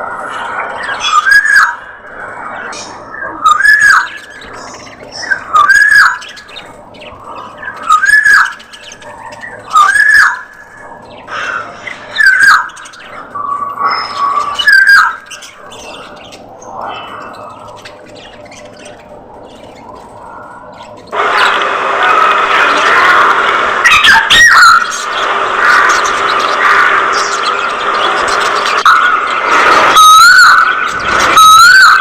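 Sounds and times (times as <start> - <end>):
birds chirping: 0.0 - 32.0
parrot squawking: 0.8 - 19.1, 21.0 - 32.0.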